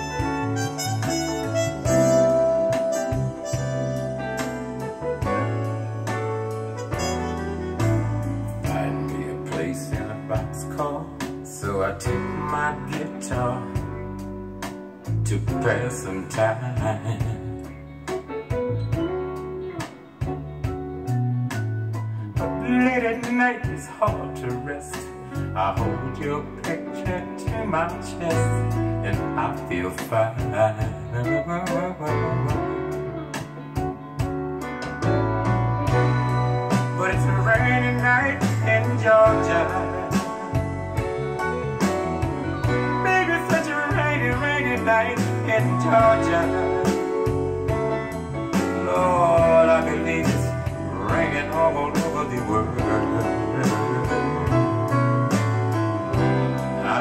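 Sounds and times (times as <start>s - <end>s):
soul music over loudspeakers: 0.0s - 57.0s.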